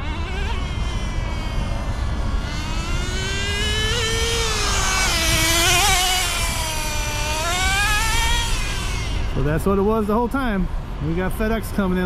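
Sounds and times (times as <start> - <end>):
small nitro engine revving: 0.0 - 10.4.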